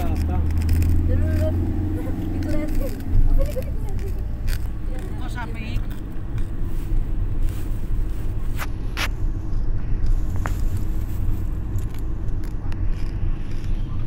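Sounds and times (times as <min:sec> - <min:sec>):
car engine rumble: 0:00.0 - 0:14.0
tyres on paved road: 0:00.0 - 0:14.0.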